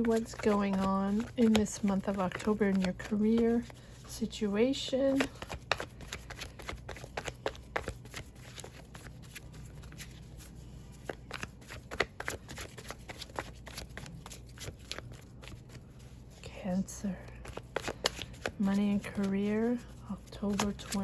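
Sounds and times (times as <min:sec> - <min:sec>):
cards being shuffled: 0:00.0 - 0:04.0, 0:04.9 - 0:16.4, 0:17.2 - 0:21.0.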